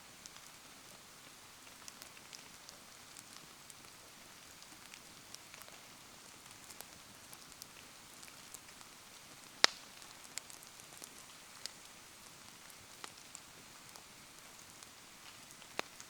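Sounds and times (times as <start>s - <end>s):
campfire wood crackling: 0.0s - 16.0s
rain hiss: 0.0s - 16.0s
raindrops ticking: 0.2s - 16.0s.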